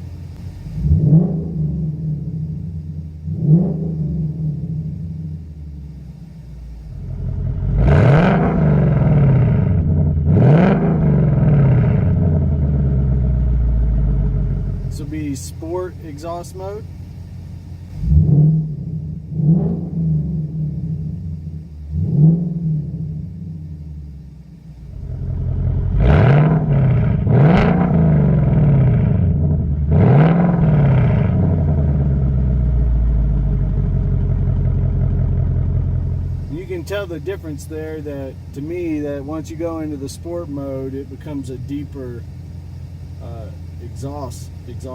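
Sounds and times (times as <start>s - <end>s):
car engine revving from idle: 0.0s - 44.9s.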